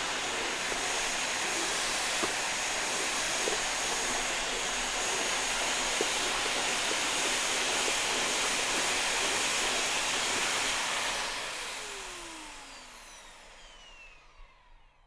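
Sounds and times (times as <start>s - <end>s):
vacuum cleaner motor whining: 0.0s - 15.0s.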